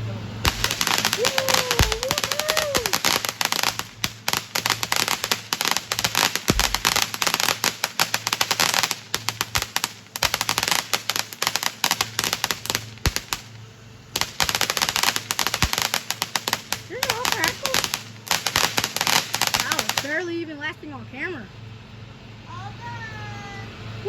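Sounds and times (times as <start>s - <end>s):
fireworks crackling: 0.0s - 20.5s.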